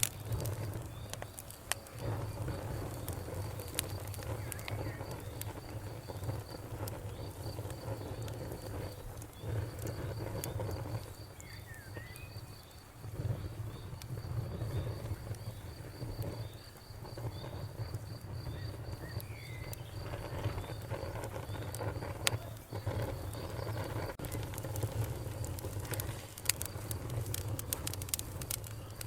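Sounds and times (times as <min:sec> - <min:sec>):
campfire crackling and popping: 0:00.0 - 0:29.0
crickets chirping: 0:00.1 - 0:29.0.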